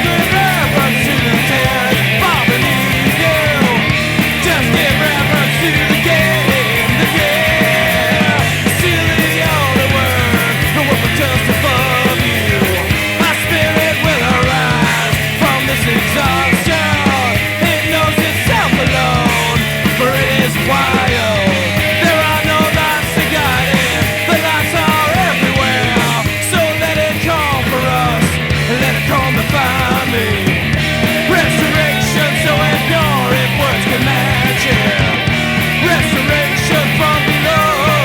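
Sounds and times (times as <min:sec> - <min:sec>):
bass: 0:00.0 - 0:38.0
drums: 0:00.0 - 0:38.0
electric guitar: 0:00.0 - 0:38.0.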